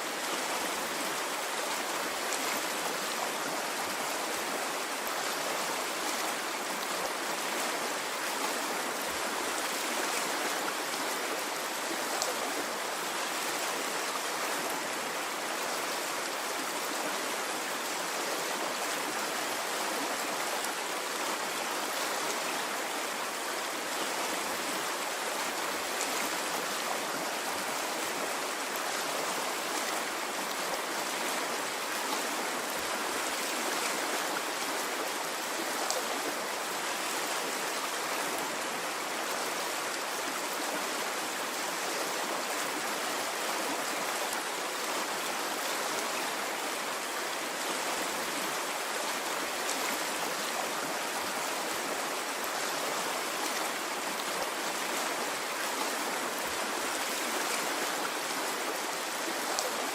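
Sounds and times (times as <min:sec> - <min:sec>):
stream of water running: 0:00.0 - 0:59.9.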